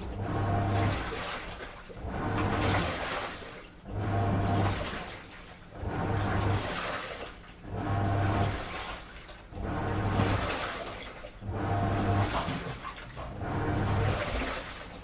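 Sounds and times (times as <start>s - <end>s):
low motor hum: 0.0s - 6.9s, 7.6s - 15.0s
washing machine sloshing: 0.0s - 15.0s.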